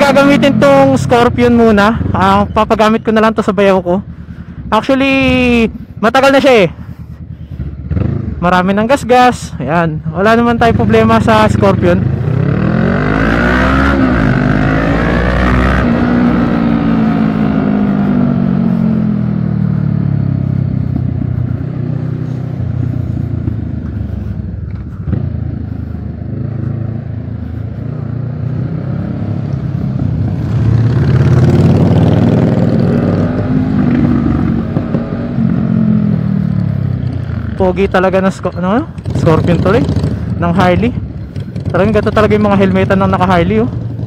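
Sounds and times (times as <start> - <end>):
motorcycle engine accelerating: 0.0 - 9.3, 10.2 - 44.0
wind and road noise: 0.0 - 44.0.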